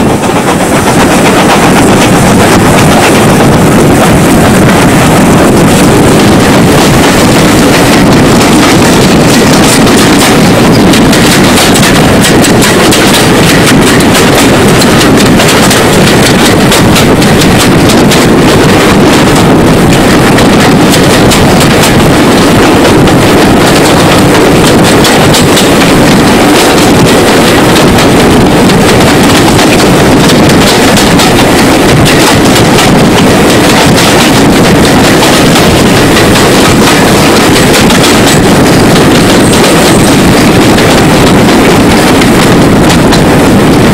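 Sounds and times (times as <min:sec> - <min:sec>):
moving train rumble: 0:00.0 - 0:43.9
wind buffeting microphone: 0:00.0 - 0:43.9.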